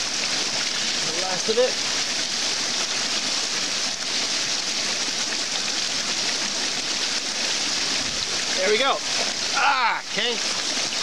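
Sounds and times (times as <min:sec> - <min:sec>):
water pouring into plastic bladder: 0:00.0 - 0:11.0
water splashing over rocks: 0:00.0 - 0:11.0.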